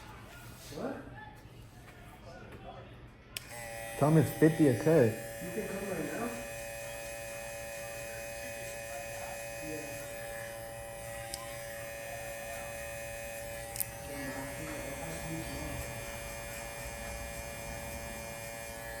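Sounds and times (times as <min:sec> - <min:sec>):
electric hair clipper buzzing: 0:03.4 - 0:19.0.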